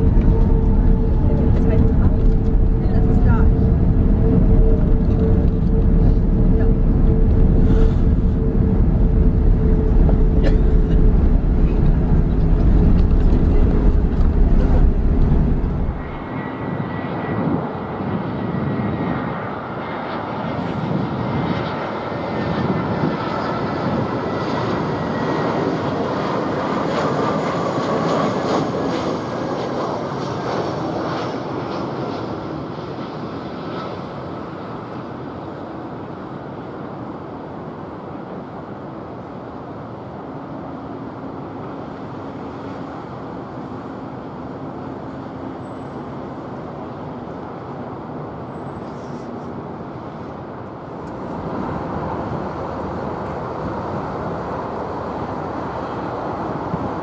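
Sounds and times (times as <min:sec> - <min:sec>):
airliner rumbling on ground: 0:00.0 - 0:57.0
jet engines rushing and whining: 0:00.0 - 0:57.0.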